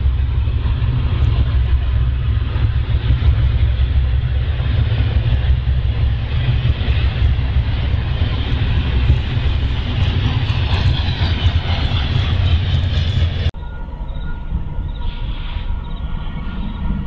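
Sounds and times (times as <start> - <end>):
freight train passing: 0.0 - 17.0.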